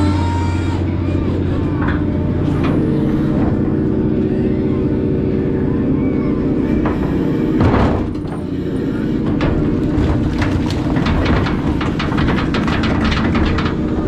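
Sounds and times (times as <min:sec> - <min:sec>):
boat engine drone: 0:00.0 - 0:14.0.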